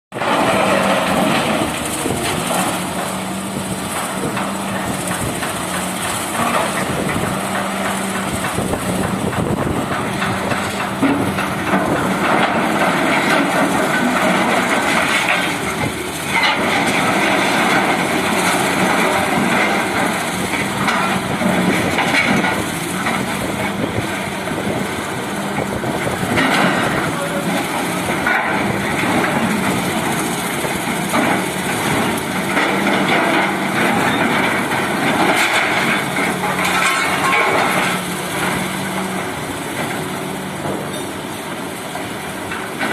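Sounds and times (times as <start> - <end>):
engine hum: 0.1 - 42.9
excavator clattering: 0.2 - 42.9.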